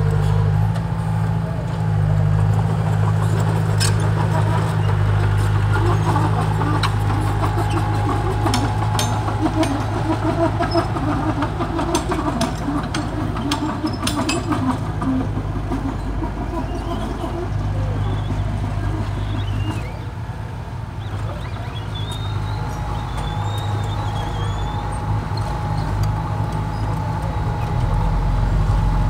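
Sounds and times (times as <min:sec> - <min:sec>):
diesel bulldozer engine under load: 0:00.0 - 0:29.0
steel tracks clanking and scraping: 0:00.2 - 0:29.0.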